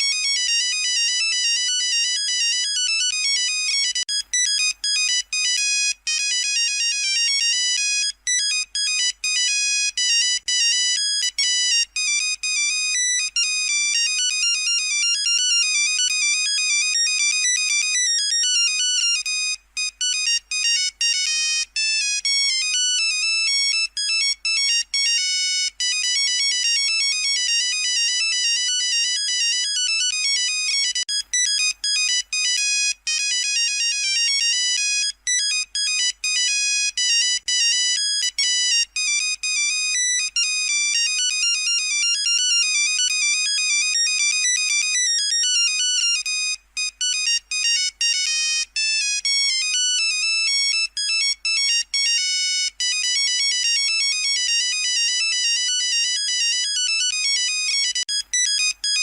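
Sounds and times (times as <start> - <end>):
monophonic ringtone beeping: 0.0 - 59.0.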